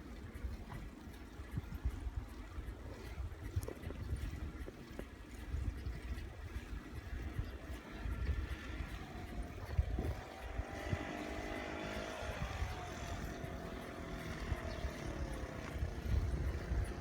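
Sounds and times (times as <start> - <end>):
passing engine hum: 0.0 - 17.0
wind buffeting microphone: 0.0 - 17.0.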